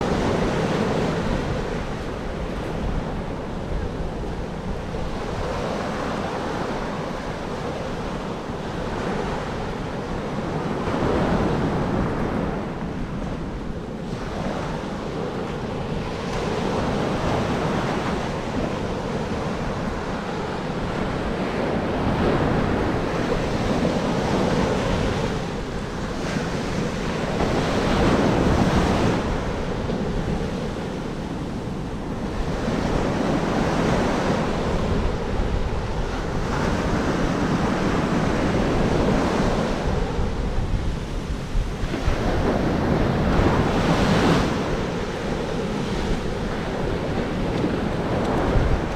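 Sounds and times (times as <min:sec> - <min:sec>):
ocean waves breaking: 0:00.0 - 0:48.9
wind buffeting microphone: 0:00.0 - 0:48.9.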